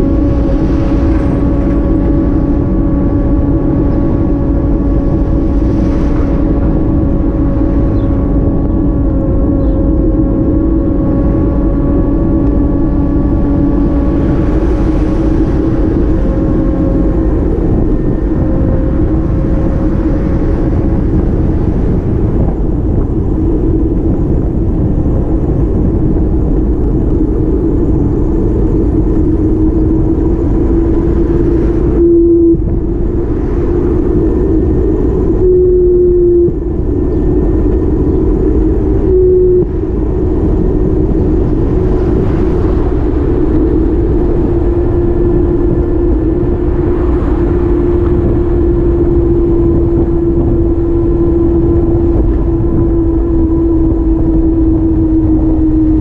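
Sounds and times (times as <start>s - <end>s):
road and wind rumble: 0.0s - 56.0s
vehicle engine droning: 0.0s - 56.0s.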